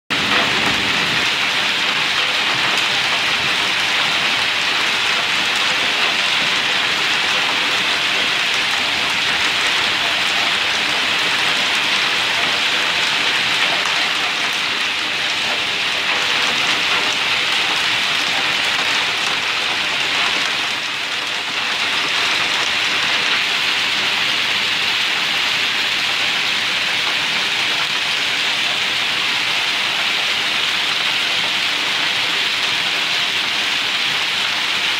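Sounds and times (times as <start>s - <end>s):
hailstones pattering on pavement: 0.1s - 34.9s.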